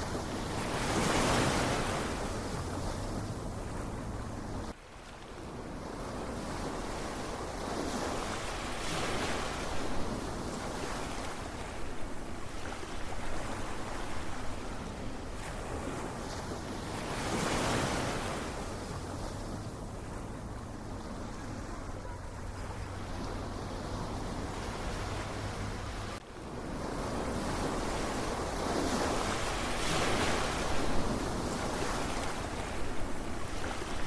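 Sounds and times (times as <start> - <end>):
ocean waves washing in: 0.0 - 34.0.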